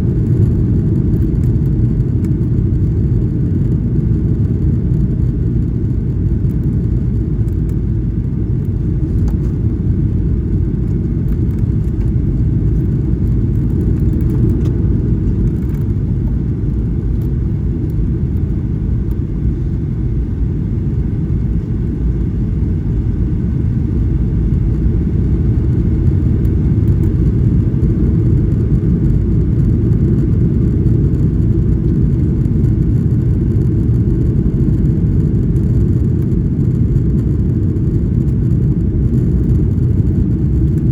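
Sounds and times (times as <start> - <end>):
airplane cabin rumble: 0.0 - 40.9.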